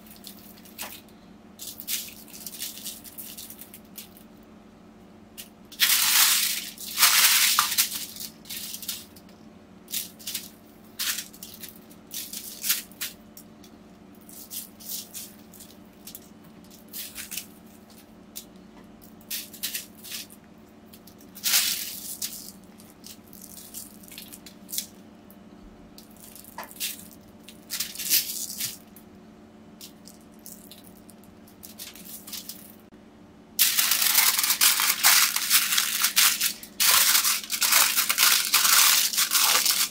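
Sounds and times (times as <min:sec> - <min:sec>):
aluminium foil crinkling: 0:00.0 - 0:04.2, 0:05.4 - 0:13.2, 0:14.2 - 0:25.0, 0:26.0 - 0:28.9, 0:29.8 - 0:32.8, 0:33.6 - 0:39.9.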